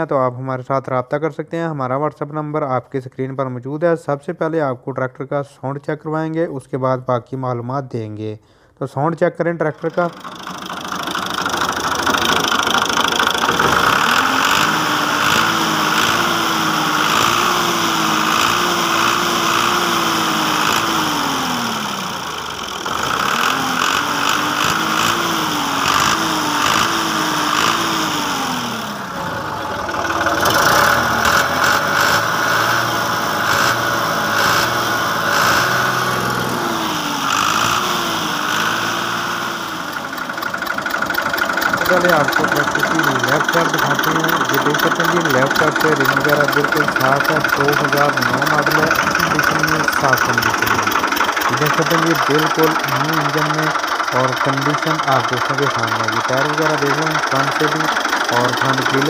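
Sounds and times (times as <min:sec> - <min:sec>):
tractor diesel engine revving: 0:09.5 - 0:59.0.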